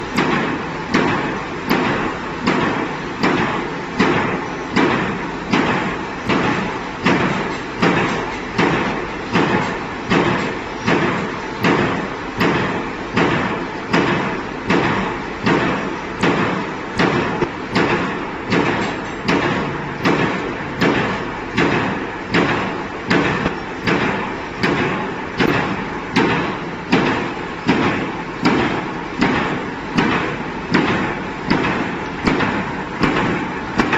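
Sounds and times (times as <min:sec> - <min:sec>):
machine press stamping: 0:00.0 - 0:33.9.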